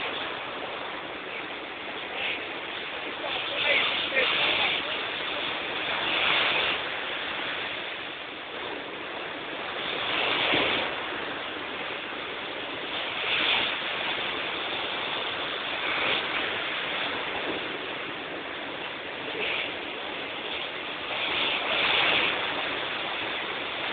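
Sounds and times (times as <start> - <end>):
waves on beach: 0.0 - 23.9.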